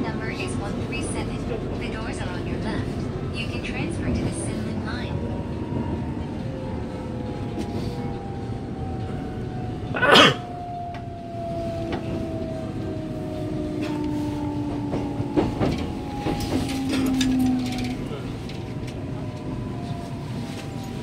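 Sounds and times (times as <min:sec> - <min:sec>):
train running rumble: 0:00.0 - 0:10.2, 0:10.8 - 0:21.0
train traction inverter whine: 0:00.0 - 0:21.0.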